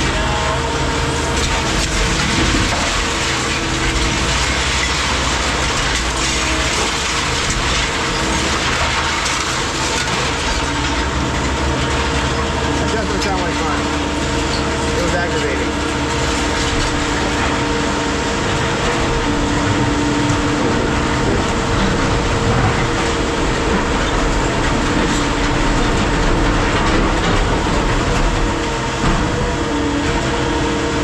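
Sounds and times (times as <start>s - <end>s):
heavy machinery drone: 0.0s - 31.0s.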